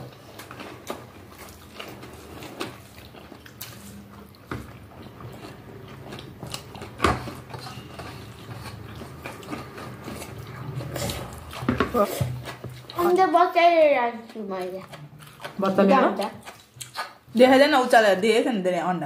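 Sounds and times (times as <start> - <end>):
chewing and mouth noises: 0.0 - 17.9.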